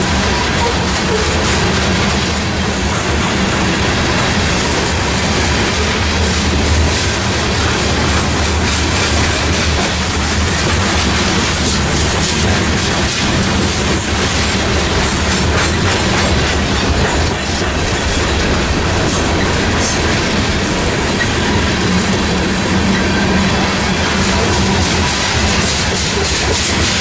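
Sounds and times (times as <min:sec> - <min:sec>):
train wheels rumbling on rail: 0:00.0 - 0:27.0
wheels clicking over rail joints: 0:00.0 - 0:27.0.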